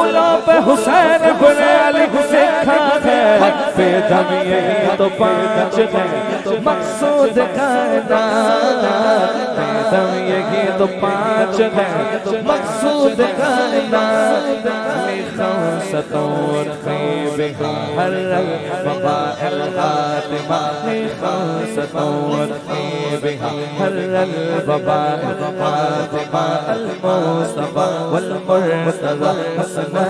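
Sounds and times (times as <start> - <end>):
man singing lead melody: 0.0 - 30.0.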